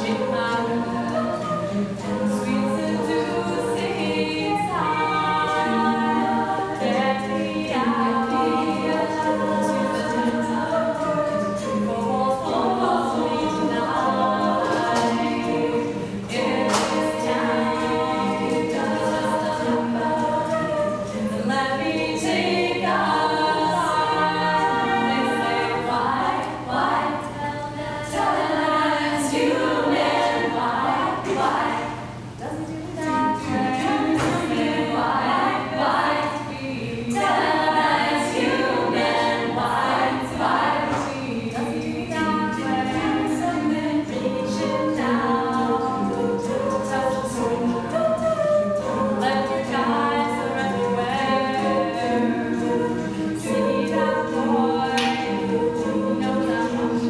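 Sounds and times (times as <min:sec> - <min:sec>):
a cappella group singing: 0:00.0 - 0:57.0.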